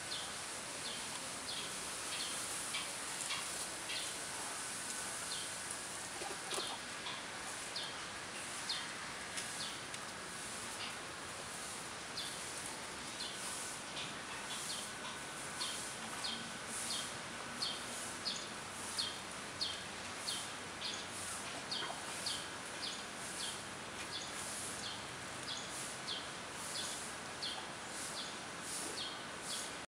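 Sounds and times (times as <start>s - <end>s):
outdoor hiss: 0.0s - 29.9s.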